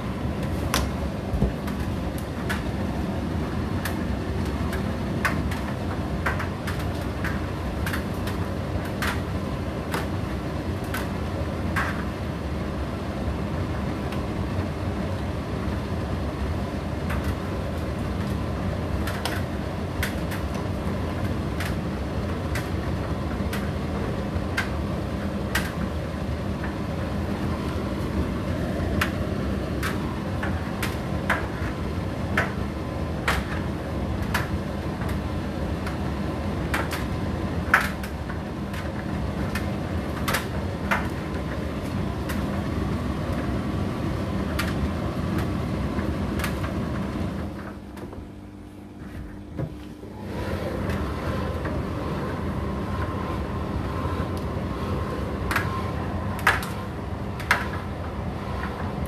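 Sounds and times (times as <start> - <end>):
tumble dryer motor hum: 0.0 - 59.0.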